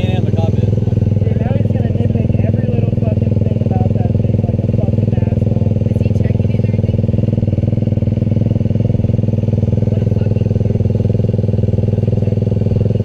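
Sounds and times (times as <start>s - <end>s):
utility vehicle engine idling: 0.0s - 13.0s.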